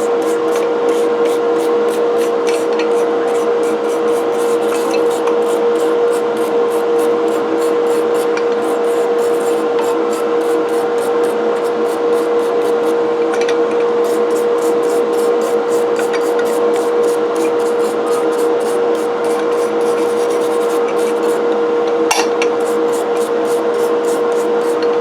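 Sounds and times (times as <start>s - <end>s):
brush scrubbing cast iron: 0.0s - 13.0s, 14.0s - 21.4s, 22.6s - 24.8s
steady hum: 0.0s - 13.2s, 14.0s - 21.5s, 22.6s - 25.0s.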